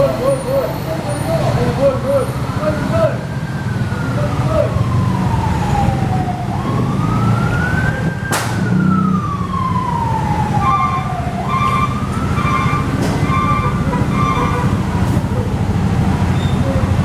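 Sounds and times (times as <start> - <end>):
vehicle siren wailing: 0.0 - 17.0.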